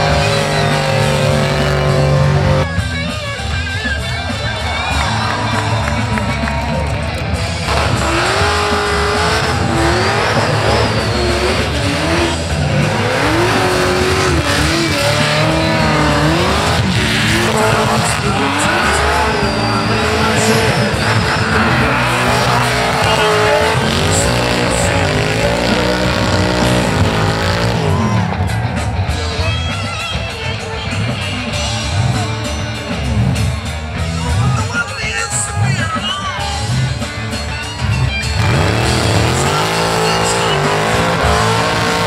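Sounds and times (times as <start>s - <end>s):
tyres spinning and squealing: 0.0s - 2.7s, 3.8s - 29.7s, 35.5s - 42.0s
car engines revving hard: 0.0s - 34.7s, 35.7s - 42.0s.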